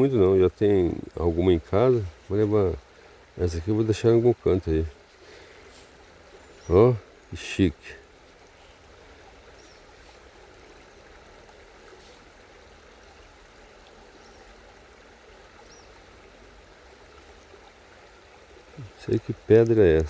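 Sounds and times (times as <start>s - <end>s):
faint rush of flowing water: 0.0s - 20.0s.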